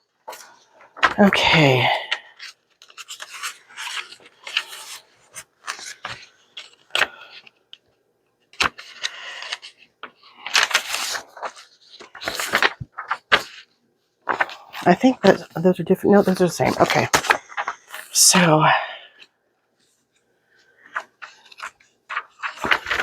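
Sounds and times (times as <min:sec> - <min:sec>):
paper rustling: 0:00.1 - 0:23.0.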